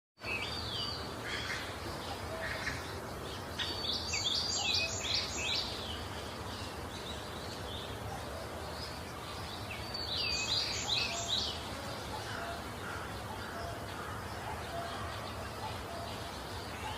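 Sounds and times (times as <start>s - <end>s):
bird chirping: 0.2s - 16.9s
steady low background noise: 0.2s - 16.9s.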